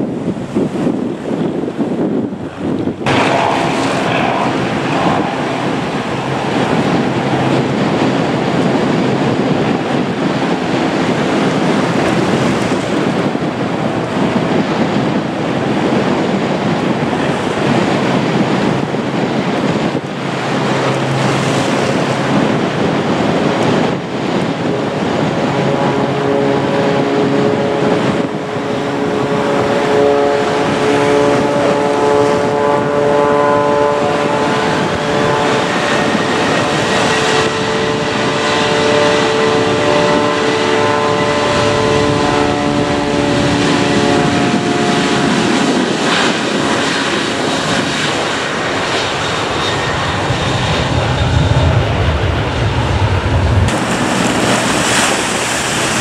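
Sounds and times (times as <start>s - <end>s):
aircraft engines roaring: 0.0s - 56.0s
steady engine tones: 0.0s - 56.0s
wind buffeting microphone: 0.0s - 56.0s.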